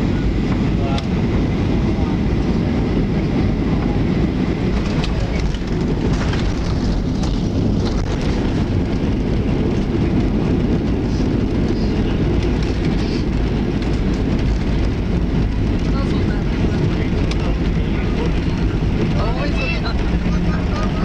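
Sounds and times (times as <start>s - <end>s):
rumble of wheels and engines: 0.0s - 21.0s.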